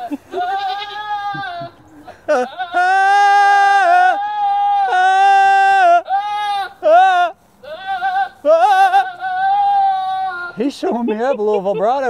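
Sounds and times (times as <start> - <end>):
goat bleating: 0.0 - 12.0.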